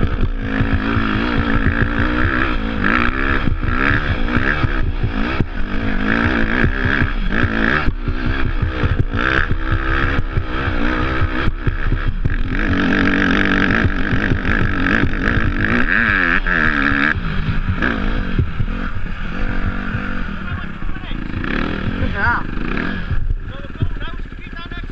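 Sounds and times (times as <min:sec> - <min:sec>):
motorcycle engine revving: 0:00.0 - 0:24.9
wind and tyre noise: 0:00.0 - 0:24.9.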